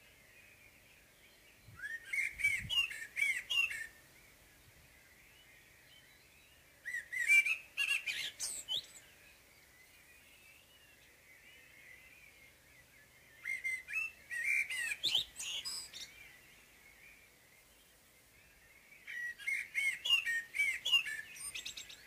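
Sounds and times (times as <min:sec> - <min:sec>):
faint background birdsong: 0:00.0 - 0:22.0.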